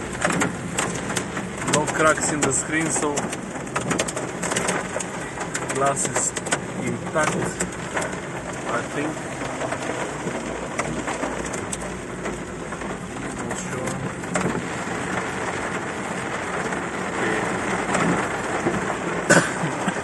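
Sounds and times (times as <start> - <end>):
heavy rain drumming on car roof: 0.0 - 20.0
hailstones ticking on glass: 0.1 - 20.0.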